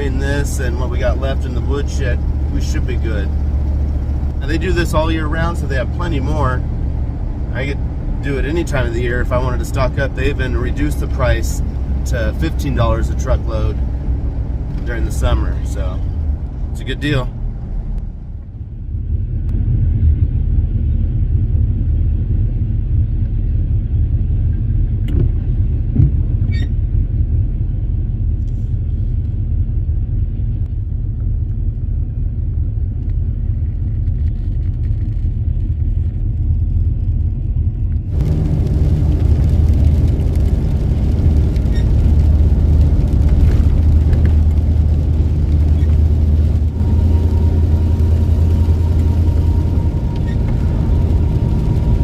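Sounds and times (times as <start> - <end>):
vehicle engine and road rumble: 0.0 - 52.0.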